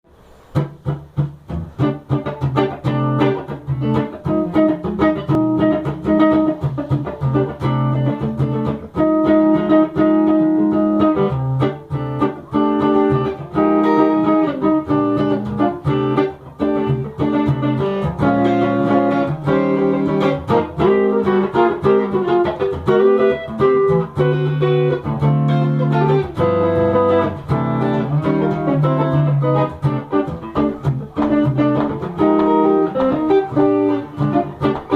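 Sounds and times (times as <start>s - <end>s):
picked guitar music: 0.1s - 34.9s.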